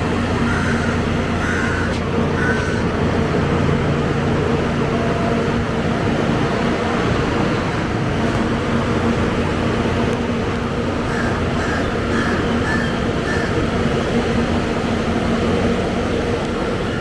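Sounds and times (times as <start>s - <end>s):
bus engine idling: 0.0s - 17.0s.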